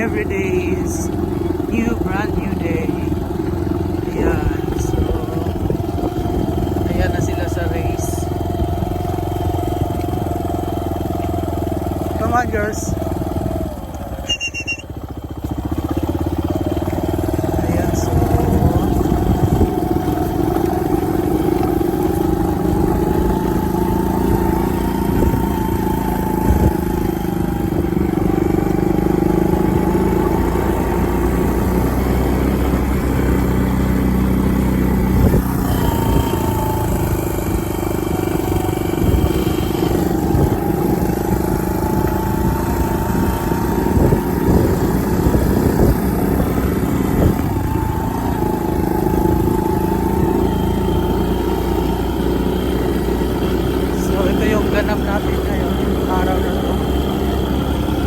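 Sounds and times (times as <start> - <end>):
small vehicle engine running: 0.0 - 58.0.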